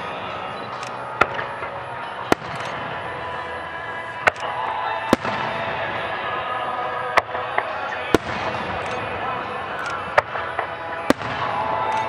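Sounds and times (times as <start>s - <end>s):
background din: 0.0s - 12.0s.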